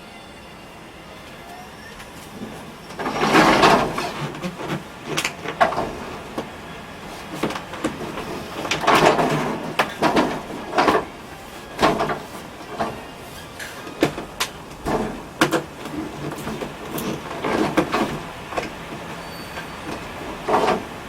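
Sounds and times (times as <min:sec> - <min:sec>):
hard parts knocking and scraping: 0:02.9 - 0:06.5, 0:07.2 - 0:21.0.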